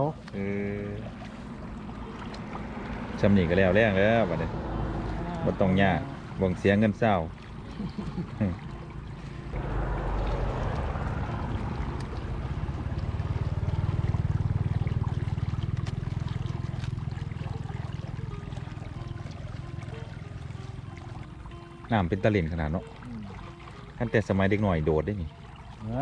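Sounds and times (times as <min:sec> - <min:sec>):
floodwater rushing down a channel: 0:00.0 - 0:26.0.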